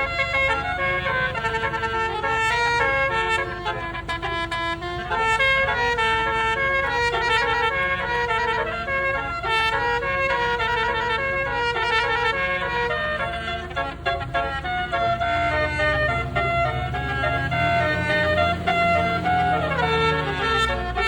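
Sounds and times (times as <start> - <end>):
air horn melody: 0.0 - 21.0
bus rumble: 0.0 - 21.0.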